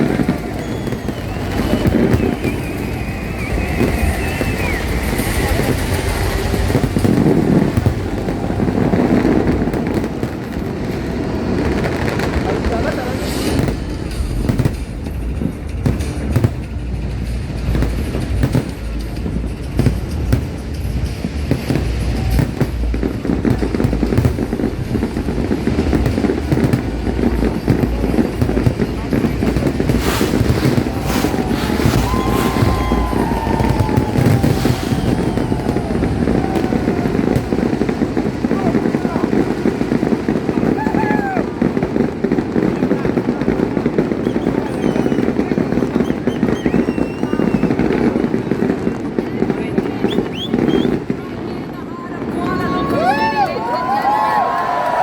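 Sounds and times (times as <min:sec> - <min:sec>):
sharp firework bangs: 0:00.0 - 0:51.6
fireworks booming and crackling: 0:00.0 - 0:55.0
large crowd voices: 0:00.0 - 0:55.0.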